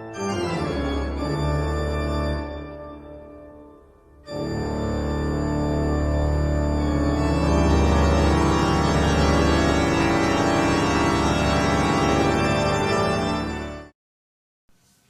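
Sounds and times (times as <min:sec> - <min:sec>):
organ playing sustained chords: 0:00.0 - 0:13.9.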